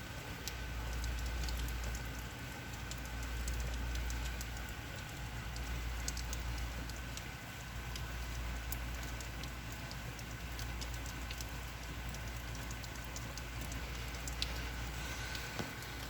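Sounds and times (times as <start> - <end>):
drips pattering on surfaces: 0.0 - 16.0
steady rain: 0.0 - 16.0.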